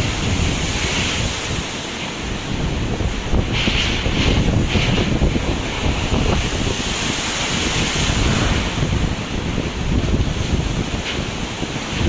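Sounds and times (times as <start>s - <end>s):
surf crashing against a pier: 0.0s - 12.0s
wind buffeting the microphone: 0.0s - 12.0s.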